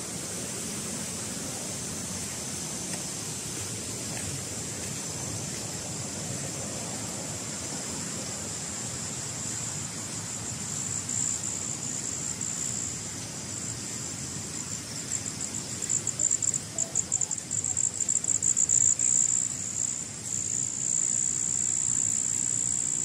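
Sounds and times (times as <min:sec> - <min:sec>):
river rushing: 0:00.0 - 0:20.8
insects chirring: 0:00.0 - 0:23.0.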